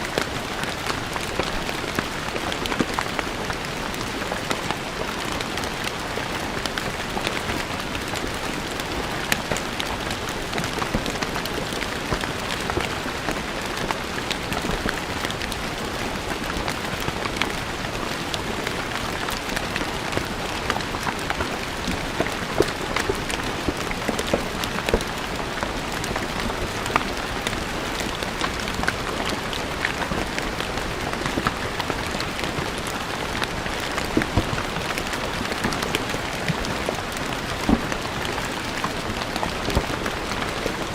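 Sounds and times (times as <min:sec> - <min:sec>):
rain on stone floor: 0:00.0 - 0:40.9.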